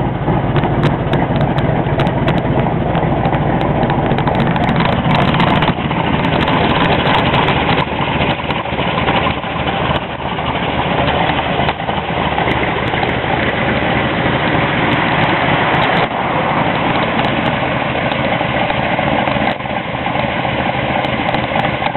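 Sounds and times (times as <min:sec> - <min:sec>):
loud car engine idling: 0:00.0 - 0:21.9.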